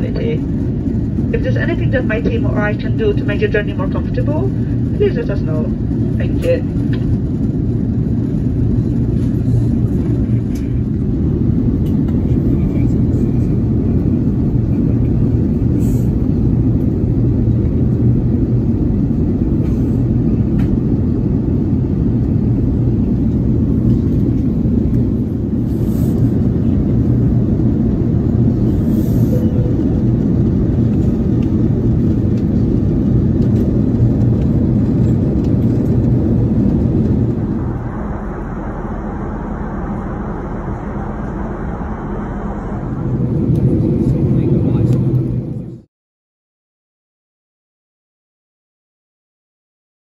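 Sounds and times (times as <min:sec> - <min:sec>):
airplane cabin rumble: 0:00.0 - 0:45.9
low hum: 0:00.0 - 0:45.9.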